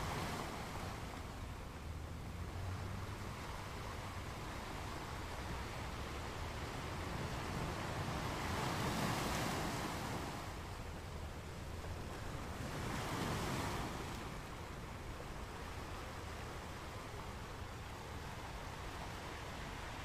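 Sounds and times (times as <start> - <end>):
ocean waves washing: 0.0 - 20.0.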